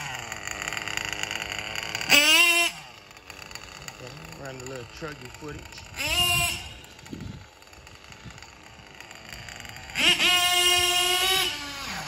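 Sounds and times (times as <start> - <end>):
small nitro engine revving: 0.0 - 12.0.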